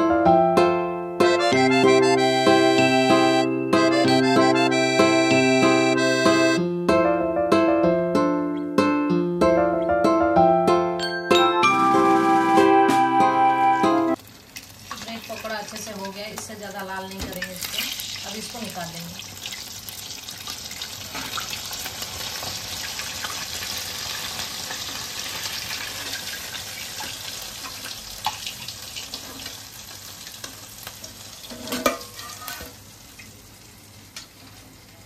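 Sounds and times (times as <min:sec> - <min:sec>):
deep-frying sizzle: 0:01.2 - 0:06.6, 0:11.5 - 0:35.0.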